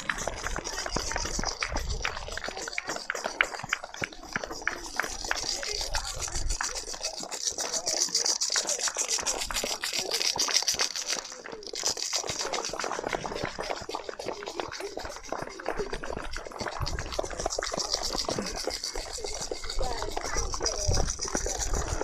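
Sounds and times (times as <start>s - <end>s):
people clapping: 0.0s - 22.0s
rattles shaken: 0.0s - 22.0s.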